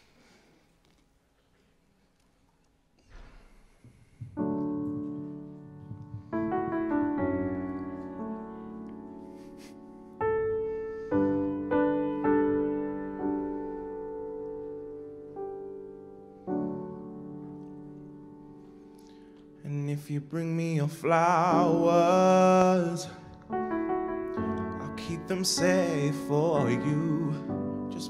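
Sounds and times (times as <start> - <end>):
slow piano chords: 3.8 - 28.0.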